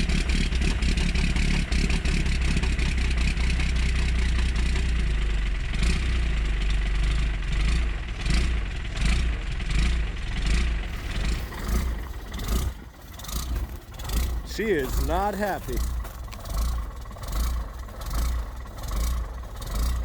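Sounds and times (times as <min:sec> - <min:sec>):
diesel engine running rough: 0:00.0 - 0:20.0.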